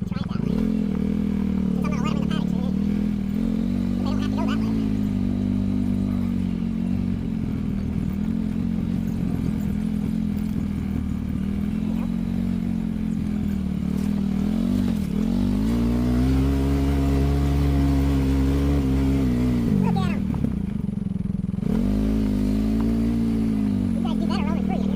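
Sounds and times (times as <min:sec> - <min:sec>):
vehicle engine running: 0:00.0 - 0:24.9.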